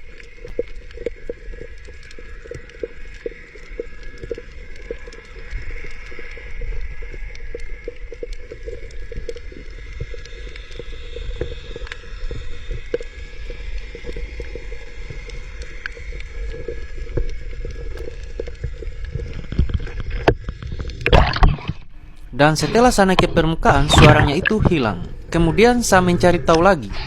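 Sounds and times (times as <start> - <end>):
crackling clicks underwater: 0.0 - 27.0
low underwater drone: 0.0 - 27.0.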